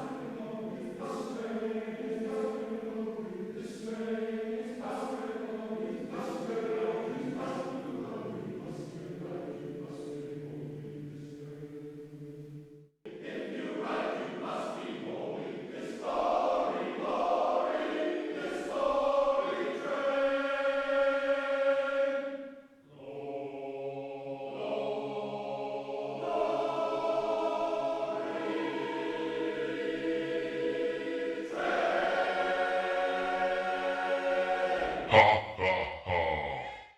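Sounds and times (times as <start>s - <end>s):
men's chorus singing a cappella: 0.0s - 12.3s, 13.1s - 36.9s.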